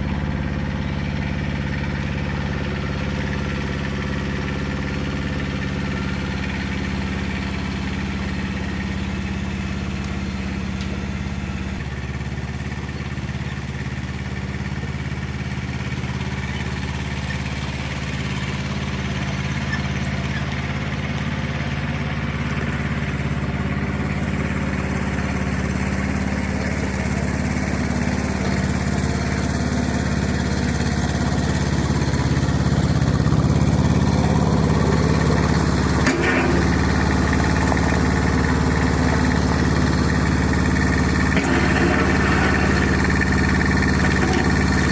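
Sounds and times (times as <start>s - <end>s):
engine running steadily: 0.0s - 44.9s.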